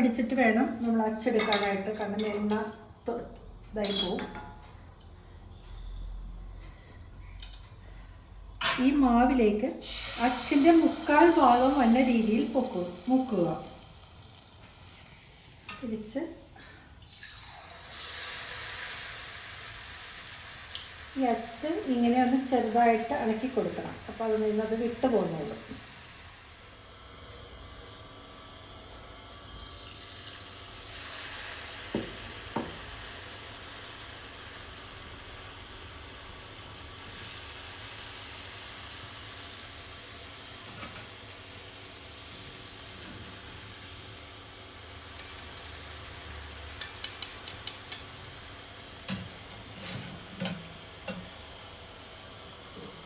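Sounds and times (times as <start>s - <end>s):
batter sizzling in hot oil: 9.8s - 16.2s, 16.9s - 53.0s.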